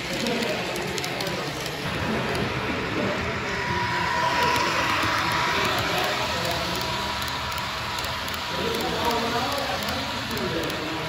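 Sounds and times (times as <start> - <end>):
model train wheels rumbling: 0.0 - 11.0
steady high tone: 1.8 - 11.0.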